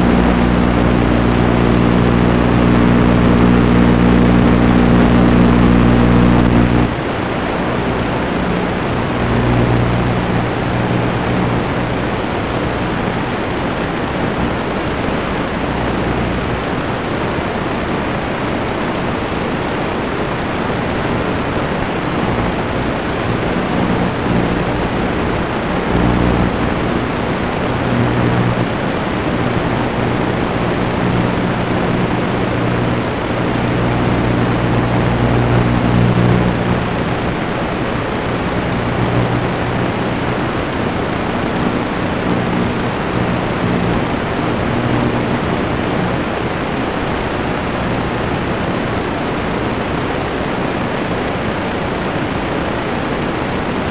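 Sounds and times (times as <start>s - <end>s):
low even buzz: 0.0s - 50.3s
static hiss: 0.0s - 53.9s.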